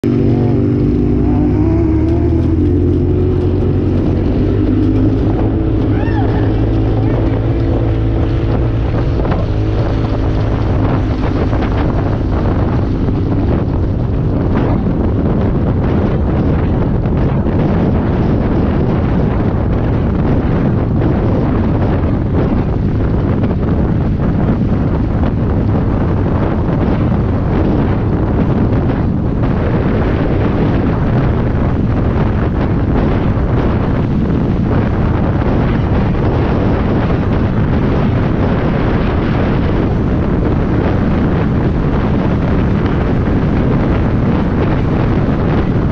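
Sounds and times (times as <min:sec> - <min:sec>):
off-road vehicle engine running: 0:00.0 - 0:45.9
wind buffeting microphone: 0:00.0 - 0:45.9.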